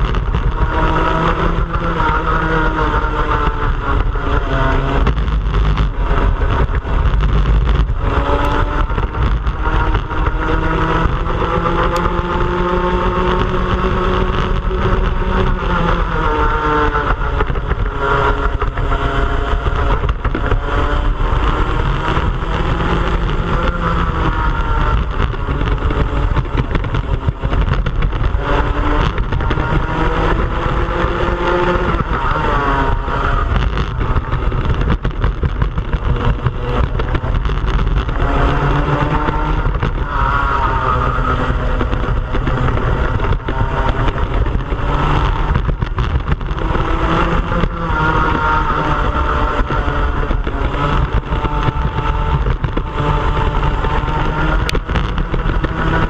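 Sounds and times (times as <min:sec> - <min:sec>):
two-stroke kart engine racing: 0:00.0 - 0:56.0.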